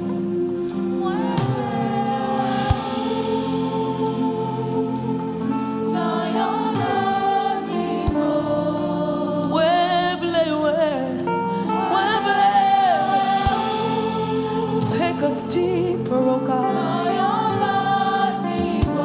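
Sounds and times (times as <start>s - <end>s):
held instrumental chords: 0.0s - 19.0s
voices singing gospel song: 0.0s - 19.0s.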